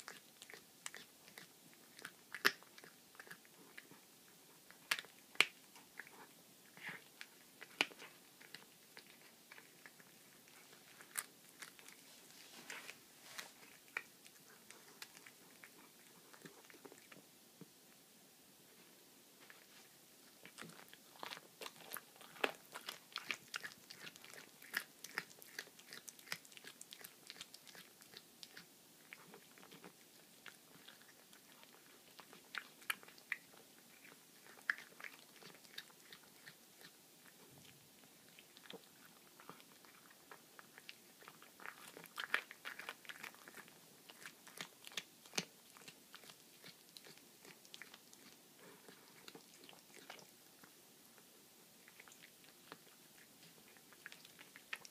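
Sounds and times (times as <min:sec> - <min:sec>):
cat crunching bones: 0:00.0 - 0:04.0, 0:04.6 - 0:12.1, 0:13.6 - 0:17.2, 0:20.3 - 0:50.8.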